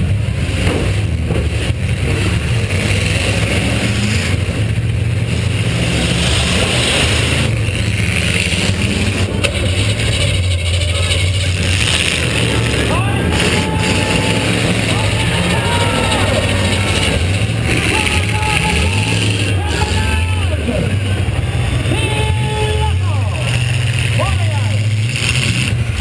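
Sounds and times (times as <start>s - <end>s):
car engine running loud: 0.0s - 26.0s.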